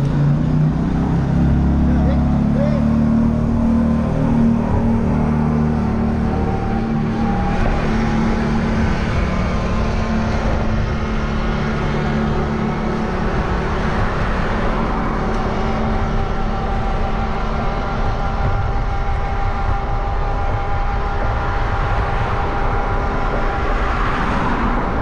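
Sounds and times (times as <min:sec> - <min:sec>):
bike road noise: 0:00.0 - 0:25.0
faint steady tones: 0:01.8 - 0:25.0
wind on microphone: 0:02.9 - 0:25.0.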